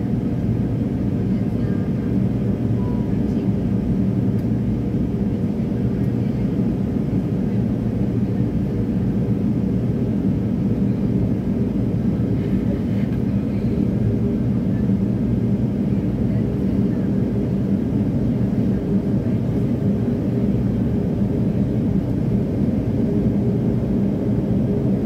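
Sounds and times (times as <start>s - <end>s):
airliner cabin drone: 0.0s - 25.0s.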